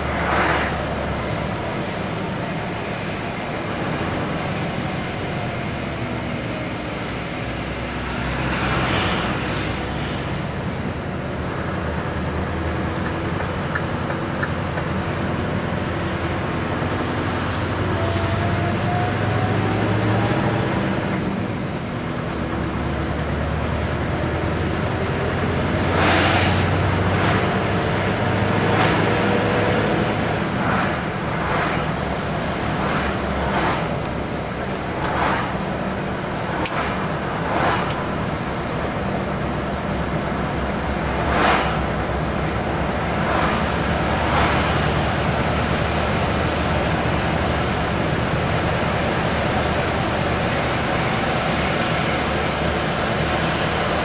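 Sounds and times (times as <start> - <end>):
heavy vehicle engine drone: 0.0 - 54.0
passing traffic rushing: 0.0 - 54.0.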